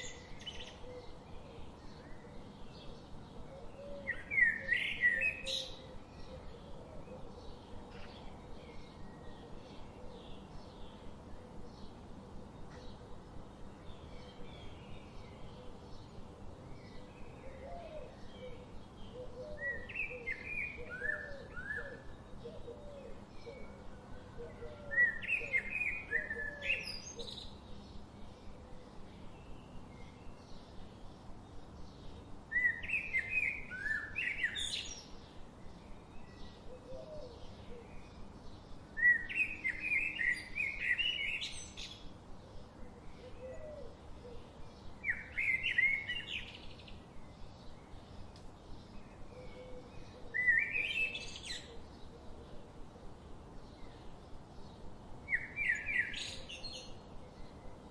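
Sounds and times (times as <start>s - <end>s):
songbird singing chirping phrases: 0.0s - 57.9s.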